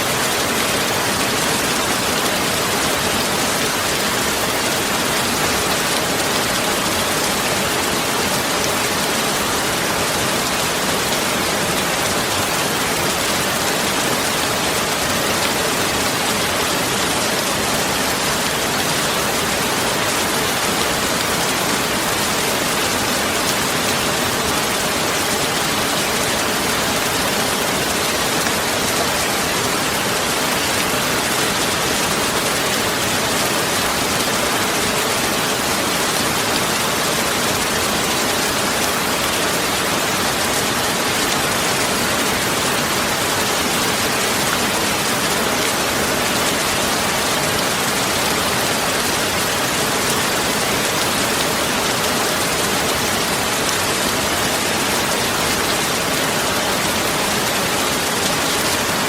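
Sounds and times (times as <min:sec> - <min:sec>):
steady rain-like hiss: 0:00.0 - 0:59.0.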